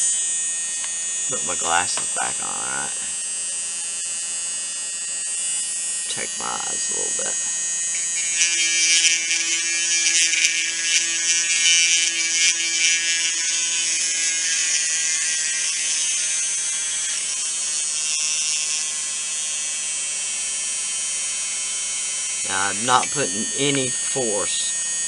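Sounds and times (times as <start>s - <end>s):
small electric drill whining: 0.0s - 25.0s.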